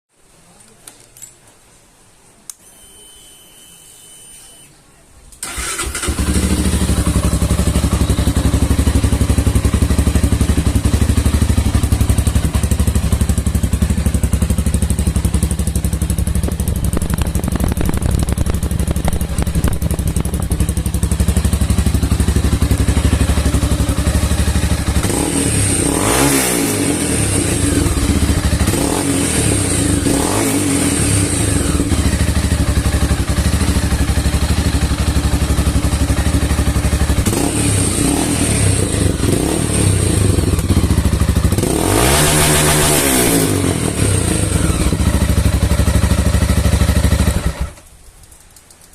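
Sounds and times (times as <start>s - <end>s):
motorcycle engine idling and revving: 5.4s - 47.9s.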